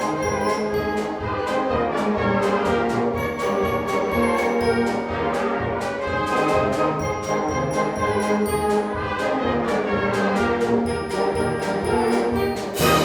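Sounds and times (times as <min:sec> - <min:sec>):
brass sustained chords: 0:00.0 - 0:13.0
percussion beat: 0:00.0 - 0:13.0.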